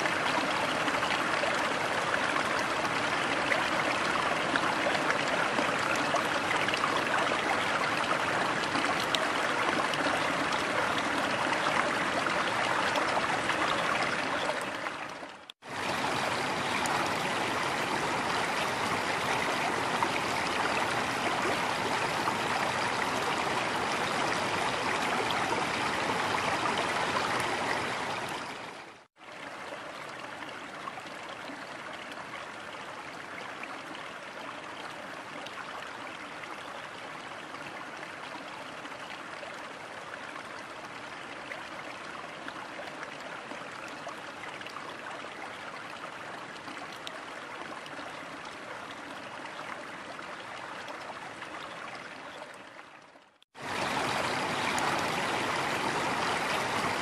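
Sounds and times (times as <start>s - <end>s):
river water running over rocks: 0.0s - 57.0s.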